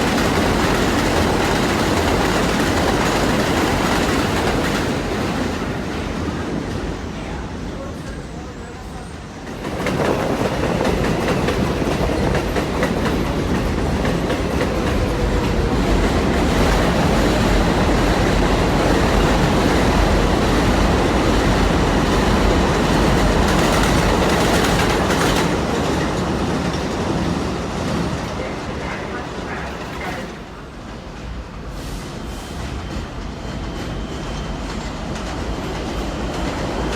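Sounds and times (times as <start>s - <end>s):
subway train running on rails: 0.0s - 36.9s.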